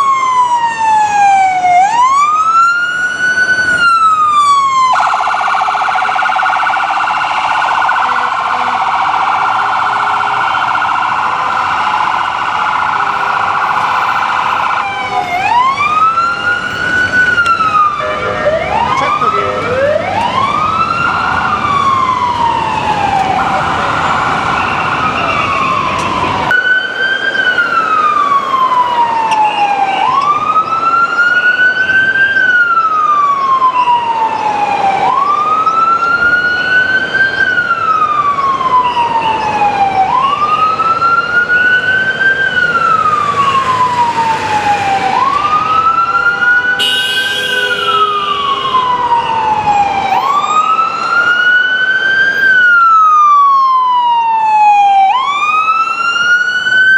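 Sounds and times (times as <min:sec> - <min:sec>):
ambulance siren wailing and yelping: 0:00.0 - 0:56.9
second siren: 0:00.0 - 0:56.9.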